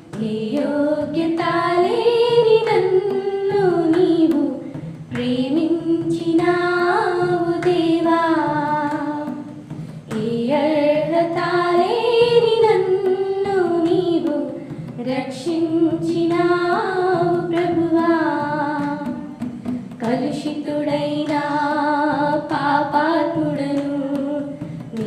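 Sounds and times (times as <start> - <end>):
young women singing in unison: 0.0 - 25.0.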